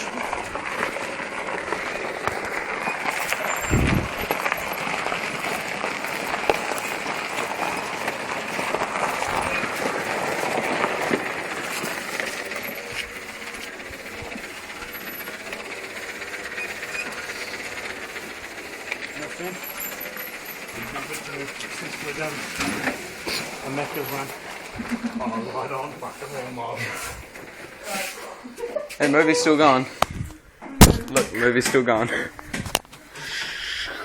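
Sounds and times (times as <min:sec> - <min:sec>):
ride-on lawnmower rattling: 0:00.0 - 0:30.0.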